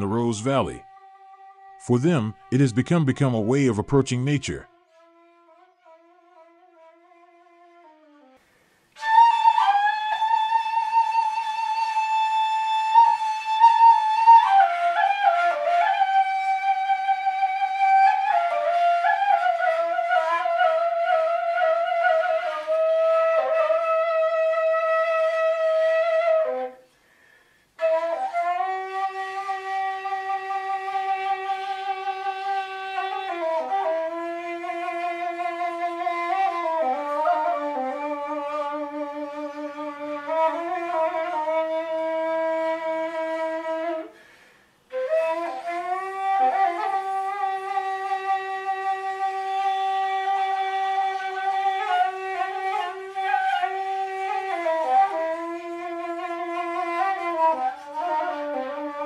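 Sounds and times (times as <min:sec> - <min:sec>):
slow flute-like melody: 0:00.0 - 0:02.6, 0:04.7 - 0:27.0, 0:27.8 - 0:59.0.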